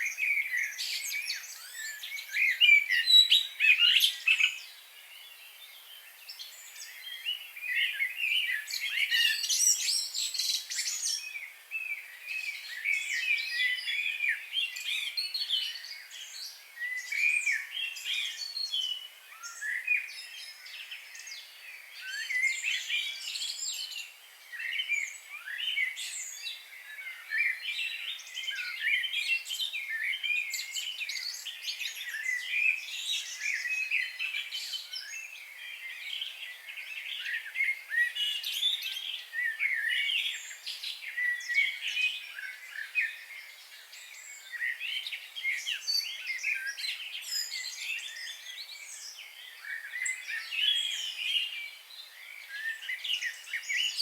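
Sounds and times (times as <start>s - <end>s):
birds chirping and singing: 0.0s - 54.0s.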